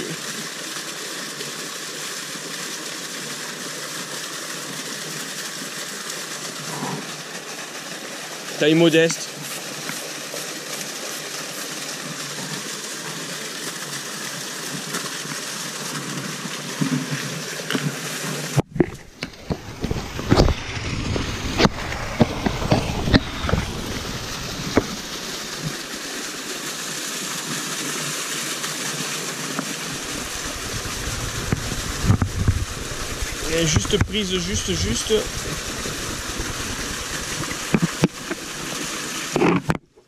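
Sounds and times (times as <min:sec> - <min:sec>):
stream and waterfall rushing: 0:00.0 - 0:39.8.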